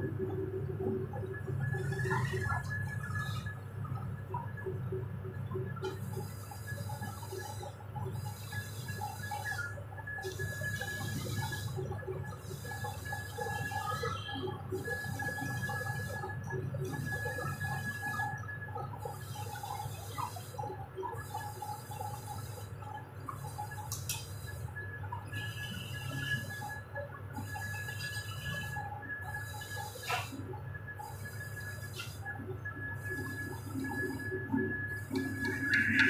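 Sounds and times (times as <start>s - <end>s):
thin steady whine: 0.0s - 36.0s.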